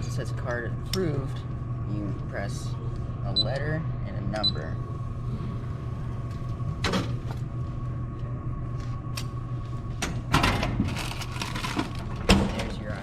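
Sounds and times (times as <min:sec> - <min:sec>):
vending machine hum: 0:00.0 - 0:13.0.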